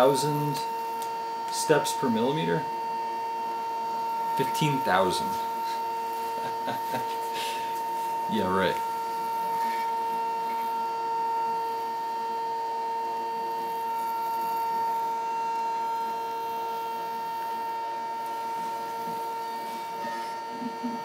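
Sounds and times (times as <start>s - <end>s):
stepper motor whine: 0.0s - 21.0s.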